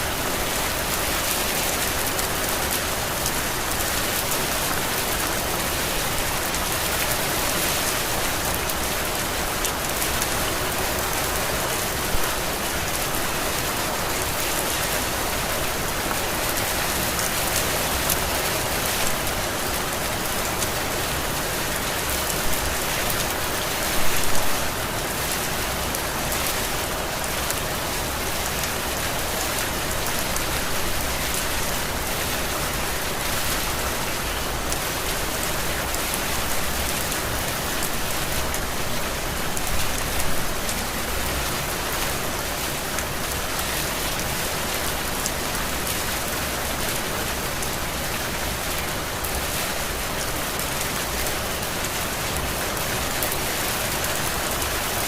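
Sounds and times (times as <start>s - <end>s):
heavy rain on foliage: 0.0s - 55.0s.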